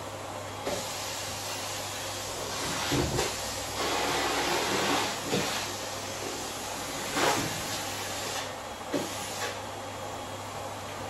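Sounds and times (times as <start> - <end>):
vacuum cleaner suction hiss: 0.6 - 9.6.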